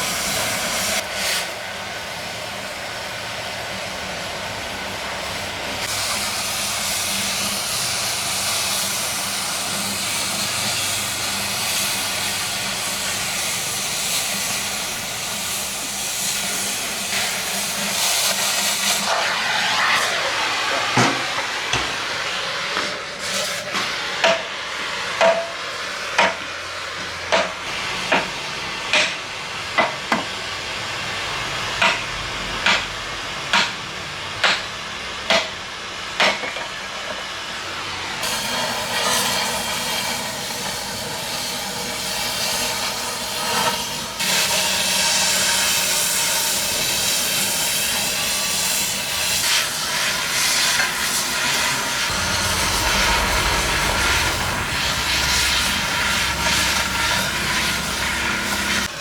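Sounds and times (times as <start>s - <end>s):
cutting torch hissing: 0.0s - 33.5s, 35.7s - 59.0s.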